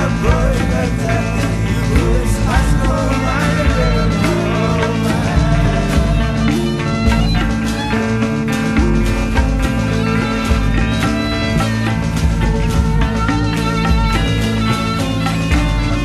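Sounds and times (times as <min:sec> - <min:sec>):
rock band music: 0:00.0 - 0:16.0
wavering lead melody: 0:00.0 - 0:16.0.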